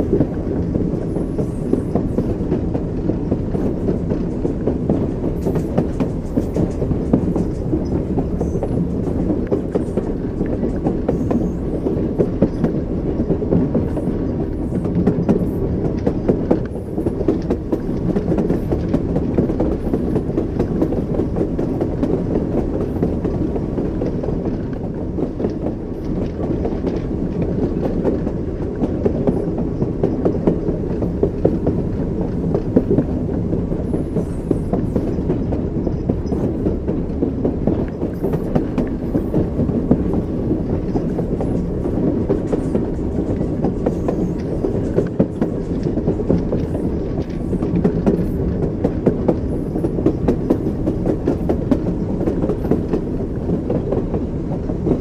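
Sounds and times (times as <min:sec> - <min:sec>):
train wheels rumbling on rails: 0:00.0 - 0:55.0
wheels clicking over rail joints: 0:00.0 - 0:55.0.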